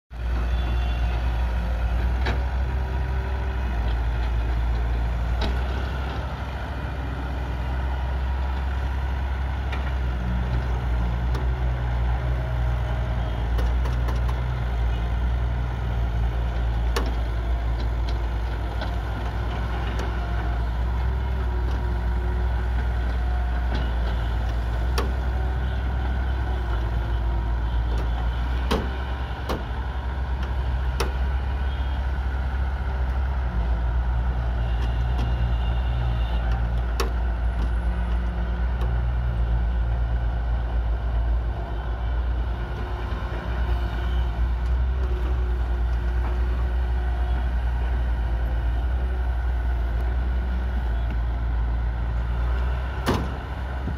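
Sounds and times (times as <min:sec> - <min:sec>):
diesel engines droning: 0:00.1 - 0:53.9.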